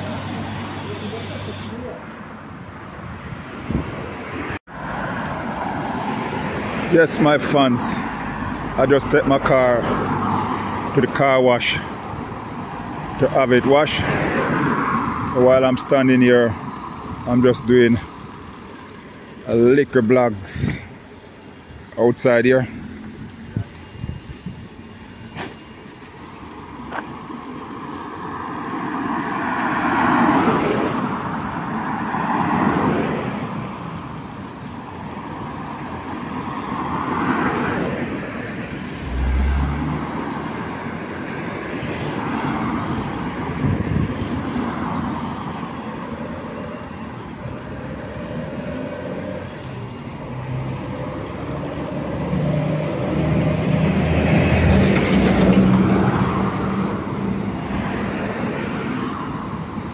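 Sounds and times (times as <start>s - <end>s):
passing vehicles: 0.0s - 59.9s.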